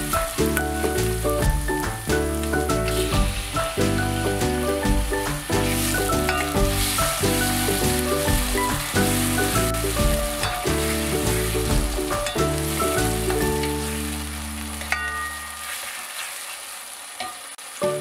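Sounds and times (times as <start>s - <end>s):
background music: 0.0s - 15.1s
vegetables sizzling in a frying pan: 0.0s - 18.0s
spatula stirring in a pan: 2.7s - 17.6s.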